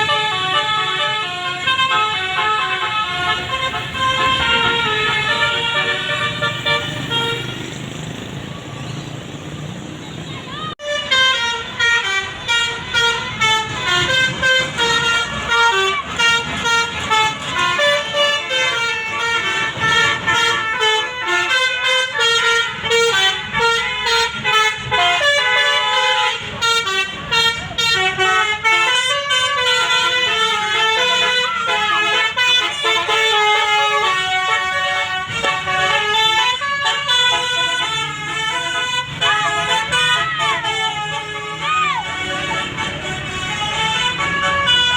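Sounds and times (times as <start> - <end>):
bus musical air horn: 0.0 - 8.1, 10.5 - 44.9.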